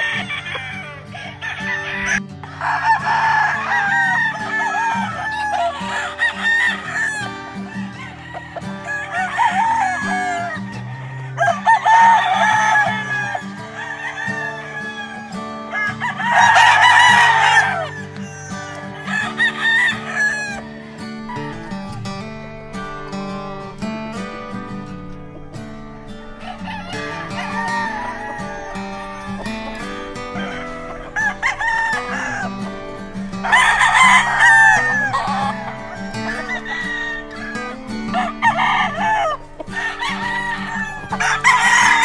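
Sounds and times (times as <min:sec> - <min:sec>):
background guitar music: 0:00.0 - 0:42.0
roosters crowing: 0:00.0 - 0:42.0.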